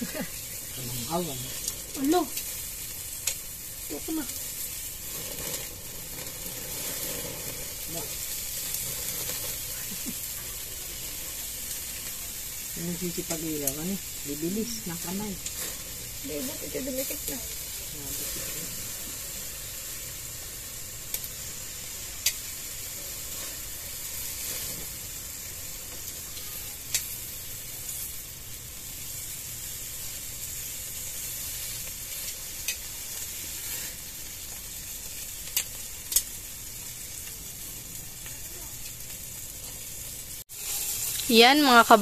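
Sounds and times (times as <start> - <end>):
sharp pops from grill: 0.0 - 16.2, 17.0 - 42.0
chicken sizzling on charcoal grill: 0.0 - 42.0.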